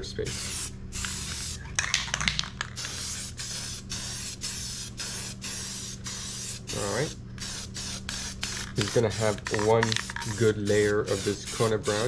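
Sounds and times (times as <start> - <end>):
spray paint can hissing: 0.3 - 12.0.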